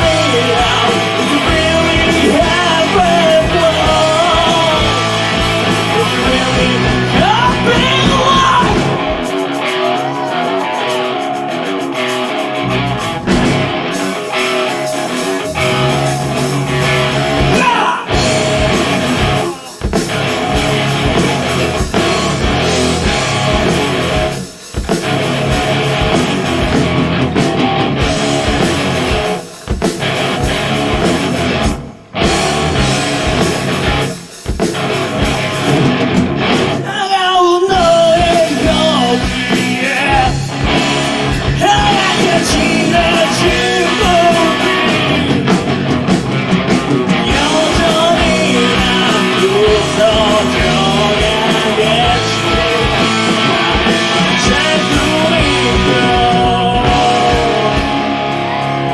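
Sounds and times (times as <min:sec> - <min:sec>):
bass guitar: 0:00.0 - 0:37.0, 0:37.7 - 0:58.9
drums: 0:00.0 - 0:58.9
electric guitar: 0:00.0 - 0:58.9.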